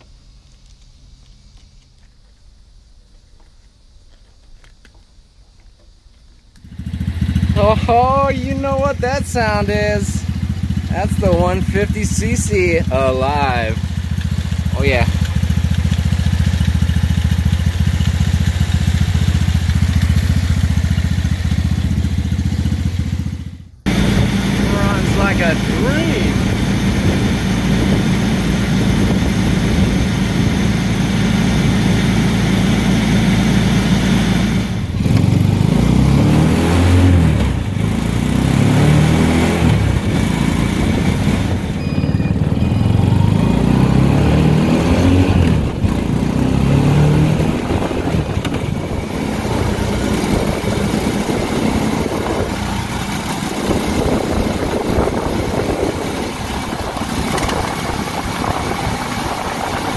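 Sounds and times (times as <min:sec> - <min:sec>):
small engine revving: 0:06.6 - 0:59.9.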